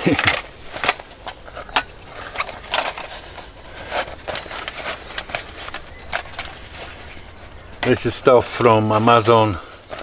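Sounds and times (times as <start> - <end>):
bag rustling: 0.0 - 10.0.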